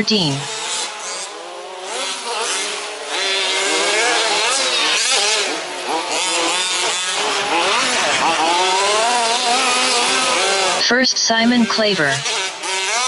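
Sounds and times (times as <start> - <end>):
rc truck engines revving: 0.0 - 13.0.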